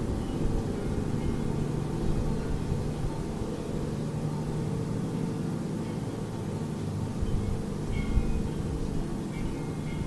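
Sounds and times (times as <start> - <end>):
low droning rumble: 0.0 - 10.0.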